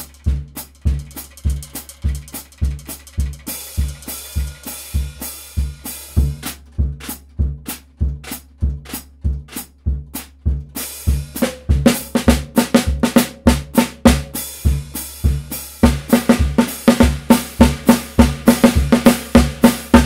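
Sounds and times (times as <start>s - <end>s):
bass drum beats: 0.0s - 20.0s
snare drum strokes: 0.0s - 20.0s.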